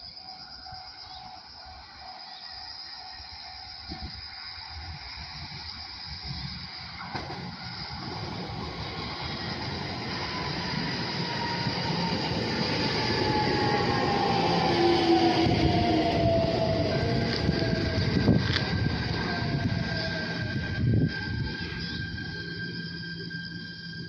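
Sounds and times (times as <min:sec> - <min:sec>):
electric train rumble: 0:00.0 - 0:24.0
train motor whine falling in pitch: 0:00.0 - 0:24.0.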